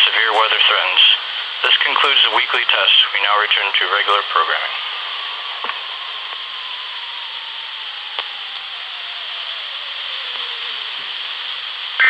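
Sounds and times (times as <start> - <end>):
radio speaker hiss: 0.0 - 12.0.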